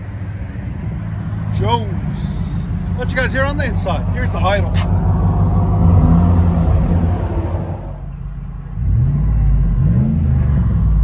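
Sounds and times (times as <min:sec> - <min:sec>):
engine idling and revving: 0:00.0 - 0:11.0.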